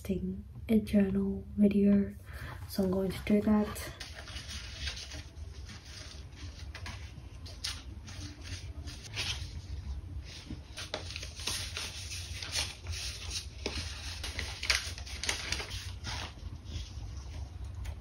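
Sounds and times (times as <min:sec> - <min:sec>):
low steady hum: 0:00.0 - 0:18.0
photo cards rustling and flicking: 0:03.0 - 0:18.0.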